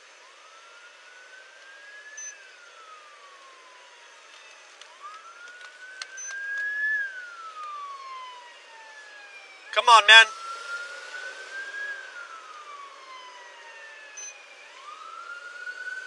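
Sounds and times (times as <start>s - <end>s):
emergency vehicle siren wailing: 0.0s - 16.0s.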